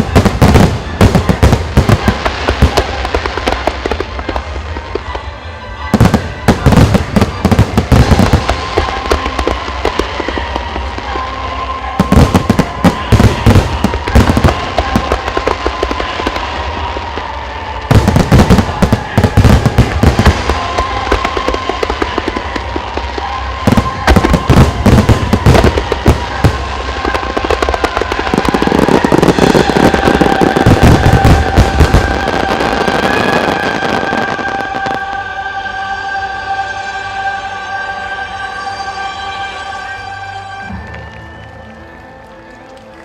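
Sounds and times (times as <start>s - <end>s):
fireworks bursting with bangs and crackles: 0.0s - 35.4s
music playing: 0.0s - 43.0s.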